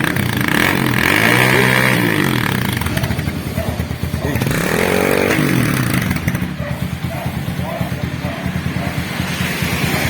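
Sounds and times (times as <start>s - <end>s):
motorcycle engine revving and idling: 0.0s - 10.0s.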